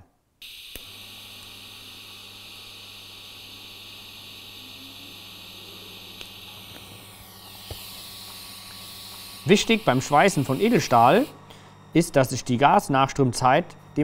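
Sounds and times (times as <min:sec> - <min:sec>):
welding arc hissing and humming: 0:00.4 - 0:13.5.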